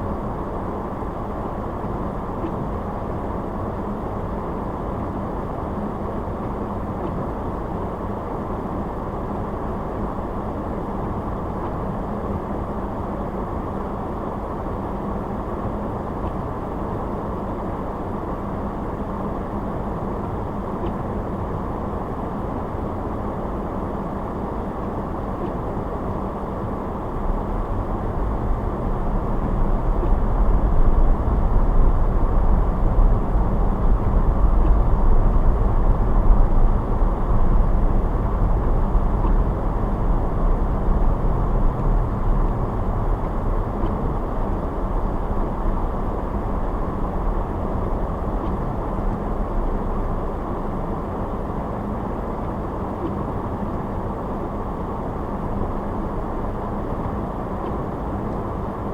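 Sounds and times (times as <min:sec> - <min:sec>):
car driving on road: 0:00.0 - 0:58.9.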